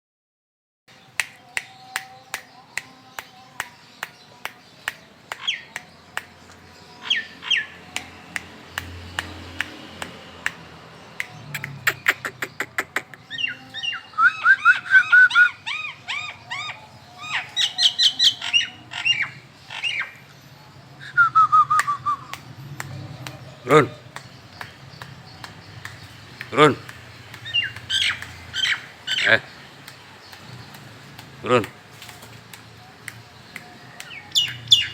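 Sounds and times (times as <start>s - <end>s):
songbirds chirping: 0.9s - 34.9s.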